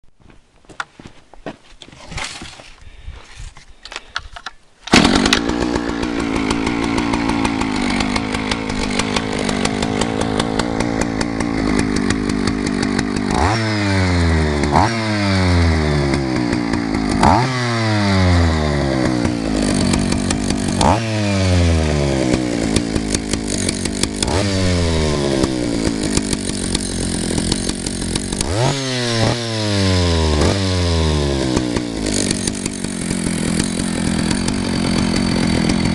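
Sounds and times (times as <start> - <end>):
chainsaw revving: 4.9 - 35.9.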